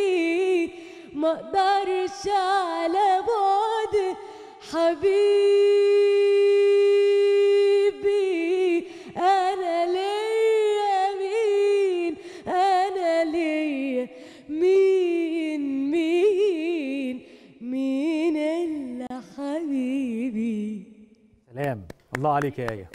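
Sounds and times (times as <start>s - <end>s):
woman singing unaccompanied: 0.0s - 21.0s.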